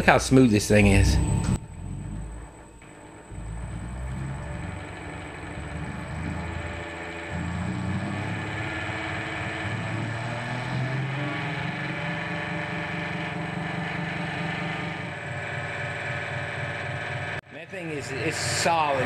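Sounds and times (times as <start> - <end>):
electric motor humming: 0.7 - 17.4.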